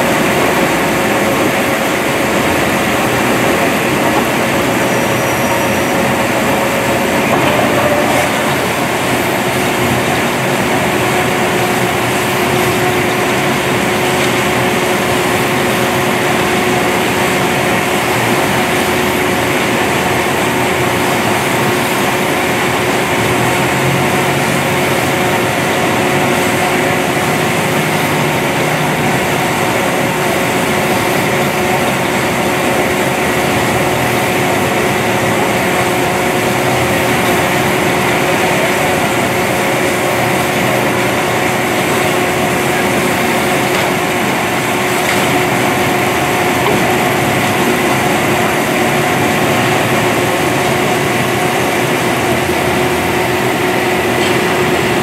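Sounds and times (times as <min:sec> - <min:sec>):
baler machine droning and whining: 0:00.0 - 0:55.0.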